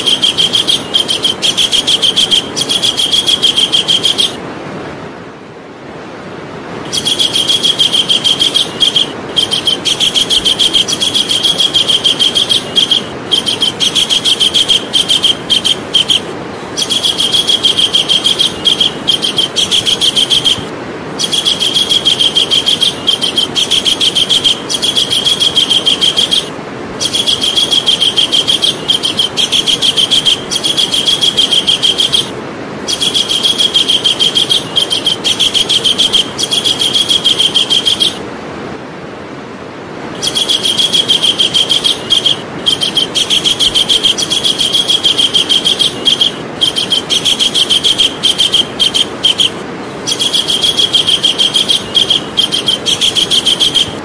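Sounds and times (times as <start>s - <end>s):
kingfisher calling: 0.0s - 4.4s, 6.9s - 38.2s, 40.2s - 54.0s.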